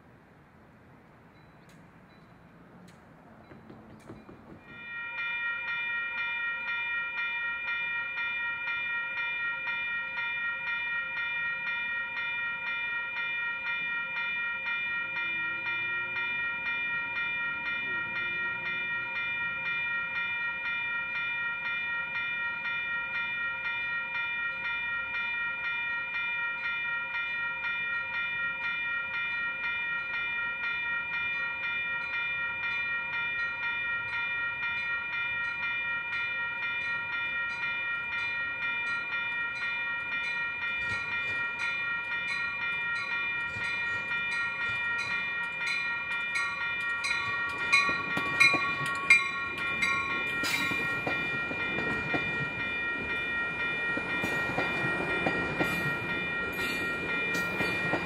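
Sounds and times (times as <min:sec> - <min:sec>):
crossing warning bell dinging: 0:01.0 - 0:58.0.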